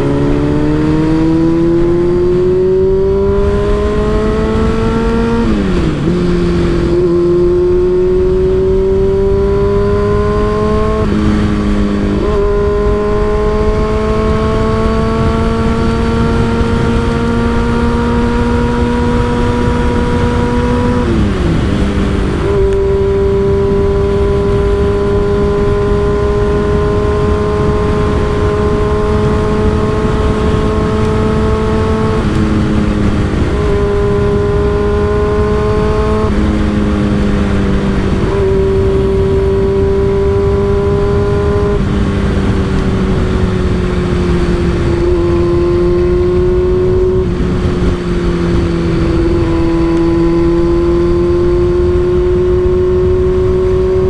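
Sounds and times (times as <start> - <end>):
motorcycle engine cruising: 0.0 - 54.0
wind rush on microphone: 0.0 - 54.0.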